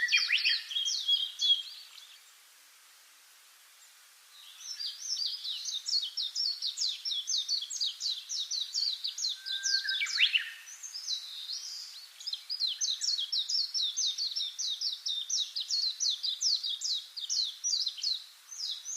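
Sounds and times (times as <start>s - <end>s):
bird chirping: 0.0s - 2.4s, 4.3s - 18.9s.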